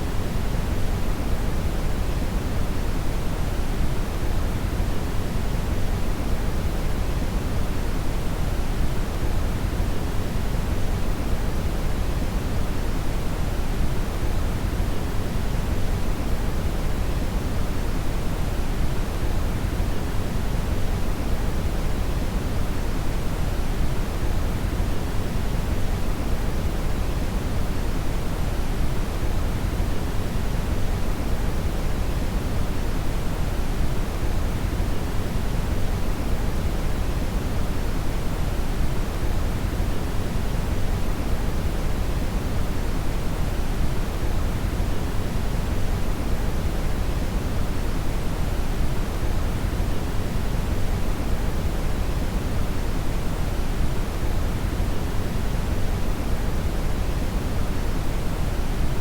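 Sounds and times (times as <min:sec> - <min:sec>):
deep steady noise hiss: 0:00.0 - 0:59.0.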